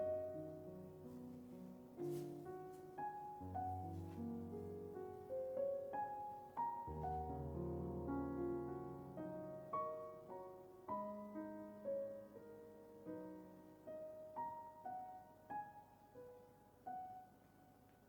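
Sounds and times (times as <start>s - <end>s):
soft slow solo piano: 0.0s - 18.0s.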